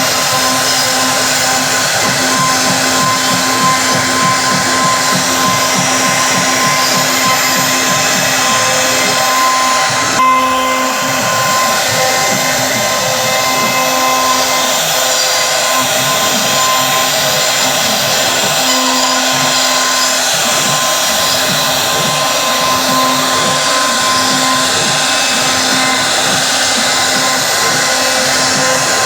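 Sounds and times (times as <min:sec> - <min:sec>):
wood router whining: 0:00.0 - 0:29.0.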